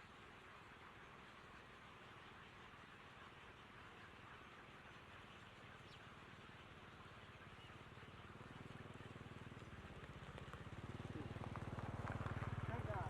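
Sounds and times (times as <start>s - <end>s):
faint engine running: 0.0s - 13.0s.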